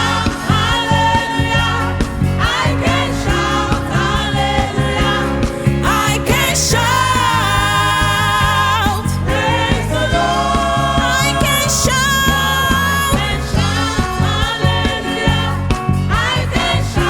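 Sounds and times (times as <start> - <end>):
band with steady beat: 0.0 - 17.0
choir singing: 0.0 - 17.0.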